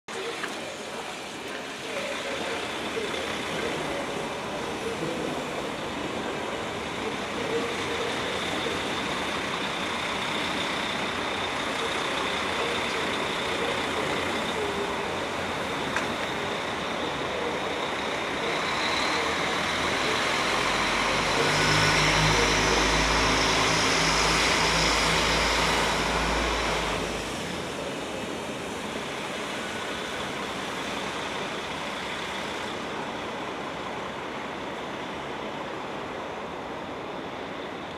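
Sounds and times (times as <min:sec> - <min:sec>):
diesel engine drone: 0:00.1 - 0:37.9
train running on rails: 0:00.1 - 0:37.9.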